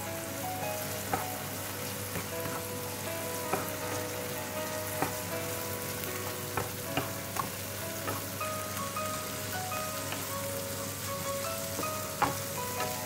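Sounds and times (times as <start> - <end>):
food sizzling in a frying pan: 0.0 - 13.0
spatula tapping a pan: 0.8 - 13.0.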